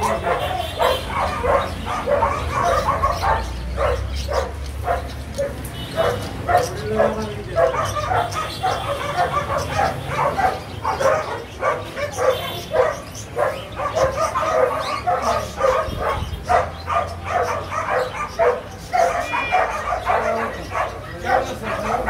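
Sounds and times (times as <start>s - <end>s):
dog barking: 0.0s - 22.0s.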